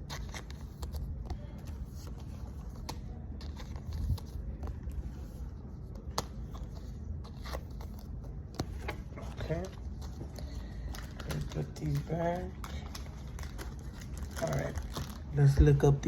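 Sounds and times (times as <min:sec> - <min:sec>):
cards clicking and rustling: 0:00.0 - 0:15.3.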